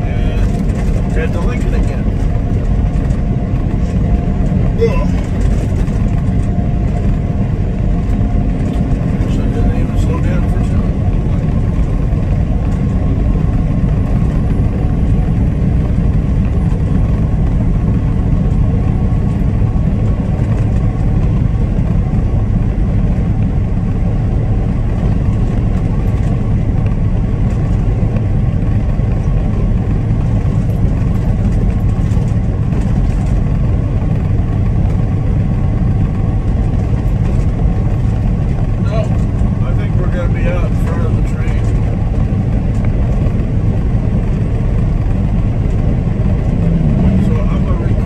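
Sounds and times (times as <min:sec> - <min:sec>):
truck road noise rumble: 0:00.0 - 0:48.0.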